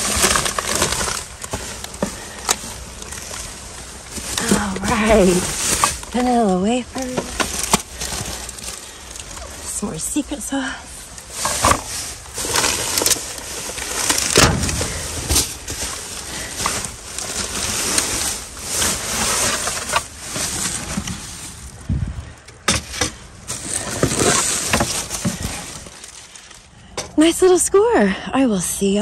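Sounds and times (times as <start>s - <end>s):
dull thumps of bags: 0.0s - 10.2s, 11.2s - 26.6s
plastic bags rustling: 0.0s - 27.0s.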